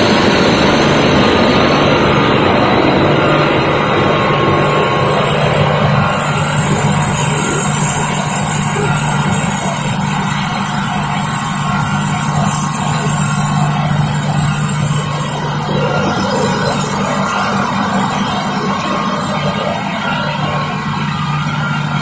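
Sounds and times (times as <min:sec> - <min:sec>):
machinery drone: 0:00.0 - 0:22.0.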